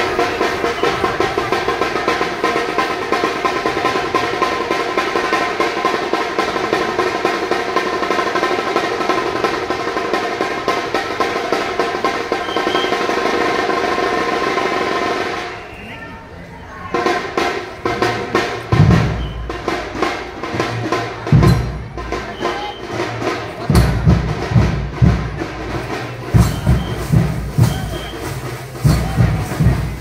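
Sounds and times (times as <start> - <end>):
fast even drum beat: 0.0 - 15.5, 16.9 - 30.0.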